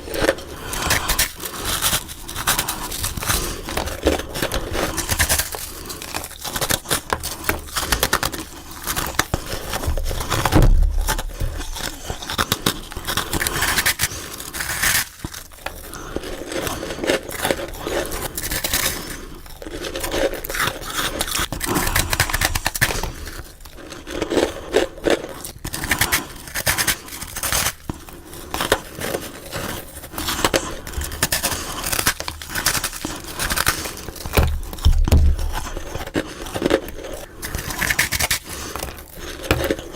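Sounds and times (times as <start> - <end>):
biting and crunching frost: 0.0 - 39.9.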